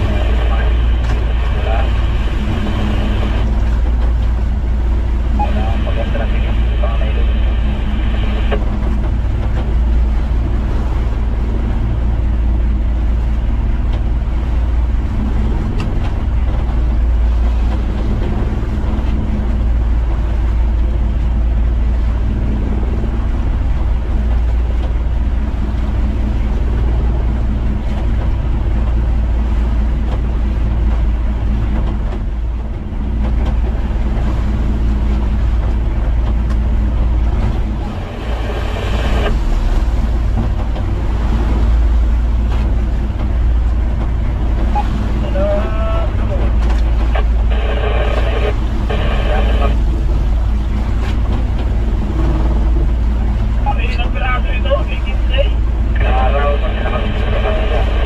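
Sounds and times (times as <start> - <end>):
boat engine rumbling: 0.0 - 58.0
wind: 0.0 - 58.0.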